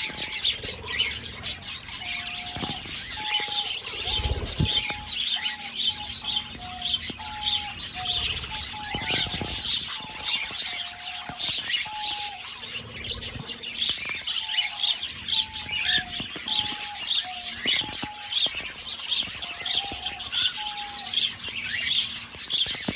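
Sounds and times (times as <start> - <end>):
budgerigars chattering: 0.0 - 22.9.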